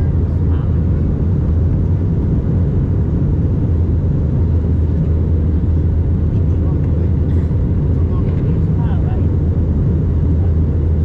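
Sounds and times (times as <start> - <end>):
airflow over fuselage: 0.0 - 11.0
jet engines droning in cabin: 0.0 - 11.0.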